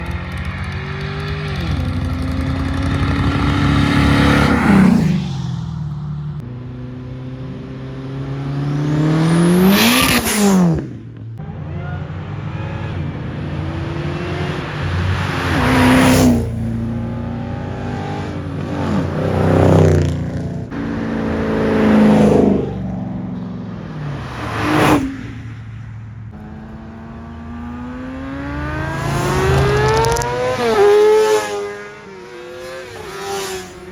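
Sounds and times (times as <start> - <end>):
cars accelerating past: 0.0 - 33.9.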